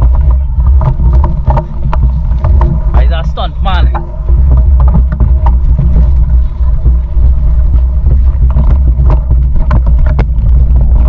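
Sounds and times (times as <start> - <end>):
bike rattling over rough ground: 0.0 - 11.0
wind buffeting microphone: 0.0 - 11.0.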